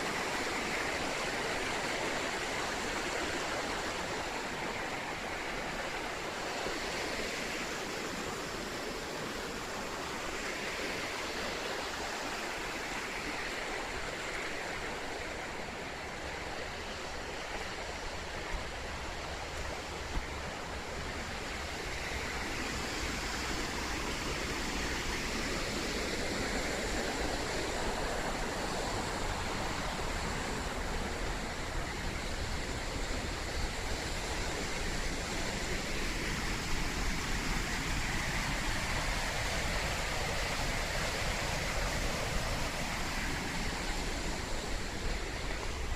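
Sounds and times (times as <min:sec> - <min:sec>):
river rapids roaring: 0:00.0 - 0:45.9.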